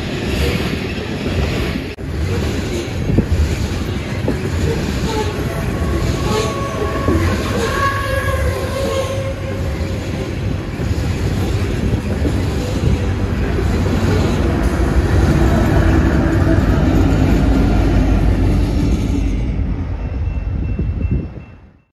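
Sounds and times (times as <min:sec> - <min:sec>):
train wheels rumbling on rails: 0:00.0 - 0:21.9
faint locomotive hum: 0:01.0 - 0:21.9.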